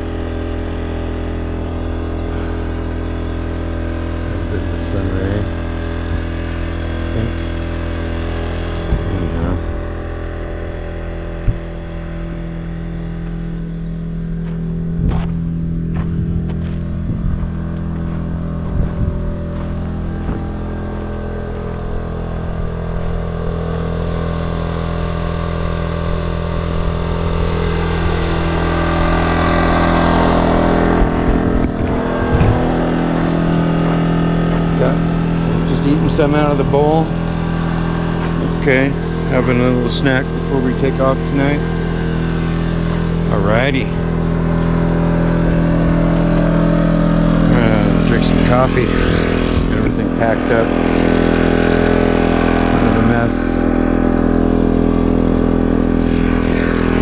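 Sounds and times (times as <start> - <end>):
generator engine humming: 0.0 - 57.0.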